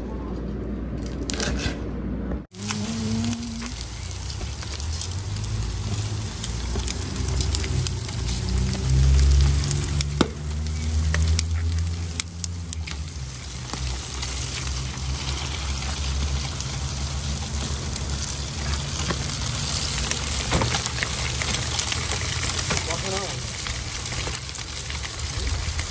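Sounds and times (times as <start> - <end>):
meat sizzling on foil: 2.5 - 25.9.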